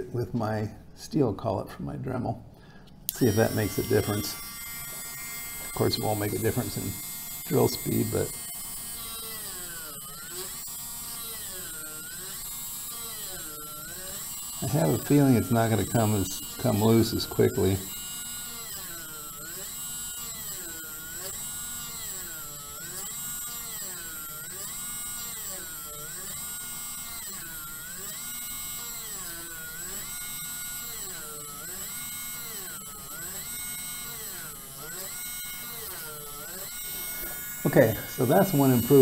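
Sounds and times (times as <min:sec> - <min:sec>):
rotary tool drilling into wood: 0:03.1 - 0:39.0.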